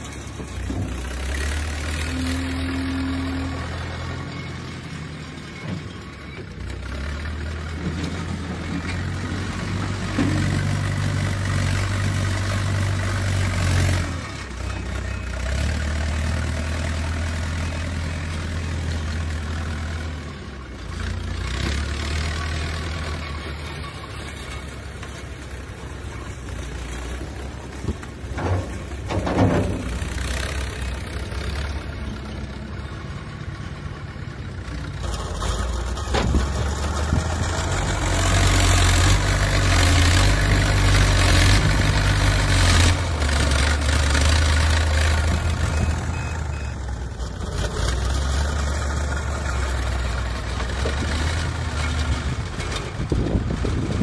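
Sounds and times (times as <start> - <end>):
backhoe diesel engine working: 0.0 - 54.0.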